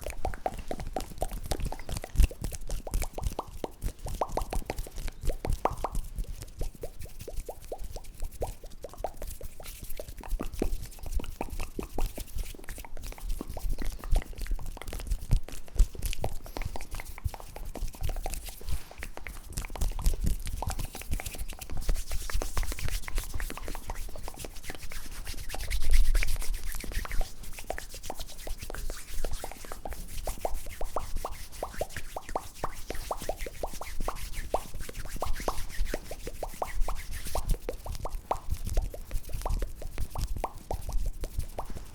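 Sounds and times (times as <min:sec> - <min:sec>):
wet mouth pops and clicks: 0:00.0 - 0:41.9.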